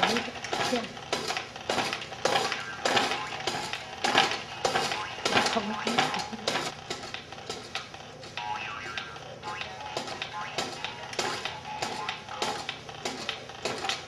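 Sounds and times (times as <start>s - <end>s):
plastic toy clattering and clicking: 0.0s - 14.0s.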